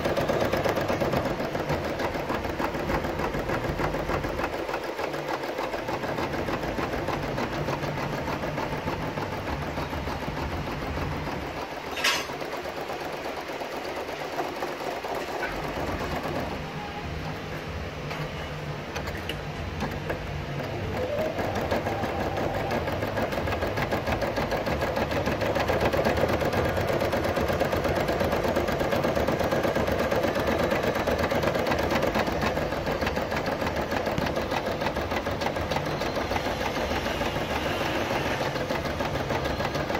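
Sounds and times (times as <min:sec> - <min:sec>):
embroidery machine needle chatter: 0:00.0 - 0:17.0, 0:19.0 - 0:39.9.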